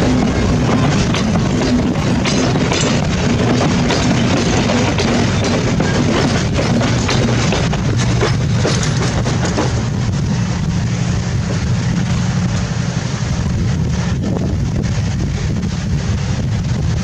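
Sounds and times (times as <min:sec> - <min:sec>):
train rumbling: 0:00.0 - 0:17.0
wheels clattering on rails: 0:00.0 - 0:17.0.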